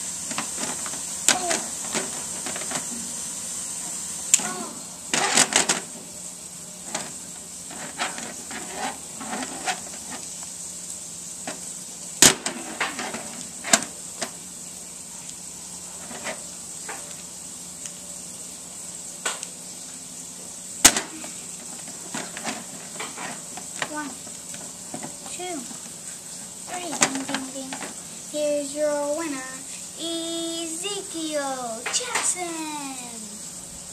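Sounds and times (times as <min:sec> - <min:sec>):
steady hiss: 0:00.0 - 0:33.9.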